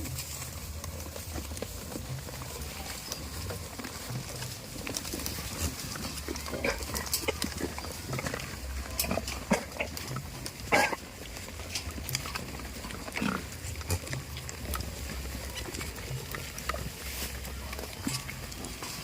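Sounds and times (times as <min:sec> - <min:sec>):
clicks and knocks from herd: 0:00.0 - 0:19.0
goats calling: 0:00.0 - 0:19.0.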